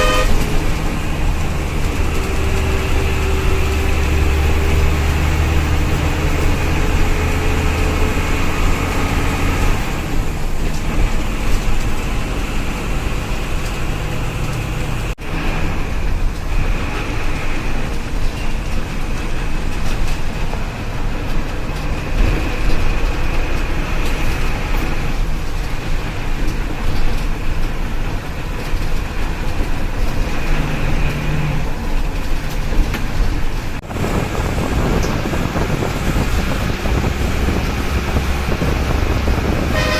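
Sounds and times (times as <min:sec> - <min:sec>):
bus engine hum: 0:00.0 - 0:39.9
road and tyre noise: 0:00.0 - 0:39.9.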